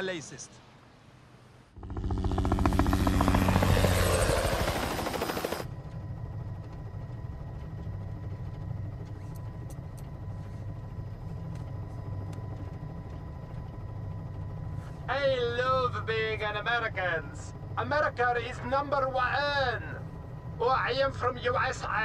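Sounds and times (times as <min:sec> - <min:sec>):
helicopter rotor chopping: 0:01.8 - 0:22.0.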